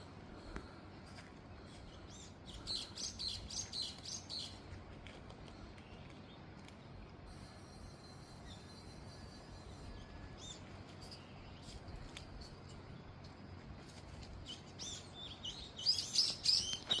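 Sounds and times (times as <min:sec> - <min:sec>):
small birds chirping: 0:00.0 - 0:07.2, 0:07.8 - 0:17.0.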